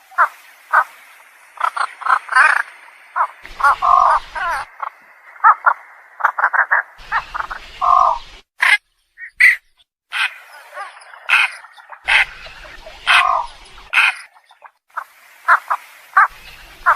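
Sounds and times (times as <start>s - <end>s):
egrets calling: 1.6s - 14.6s, 15.5s - 16.9s.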